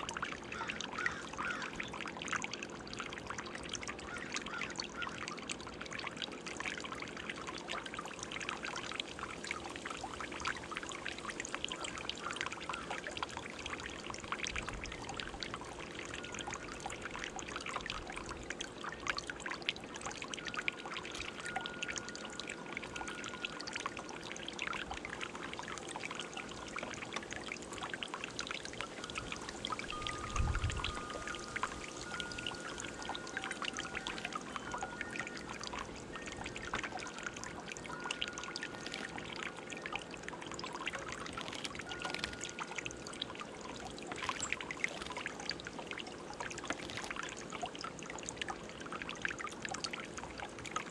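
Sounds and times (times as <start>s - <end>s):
fountain water bubbling: 0.0s - 50.9s.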